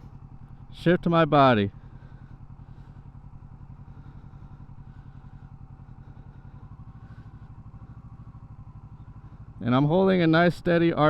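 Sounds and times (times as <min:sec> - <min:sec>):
motorcycle engine running low: 0:00.0 - 0:11.0.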